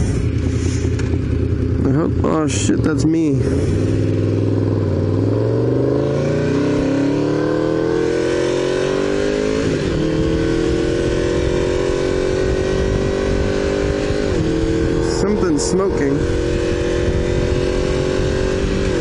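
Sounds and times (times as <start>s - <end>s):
motorcycle engine accelerating: 0.0s - 19.0s
road rumble: 0.0s - 19.0s
wind noise: 3.4s - 19.0s.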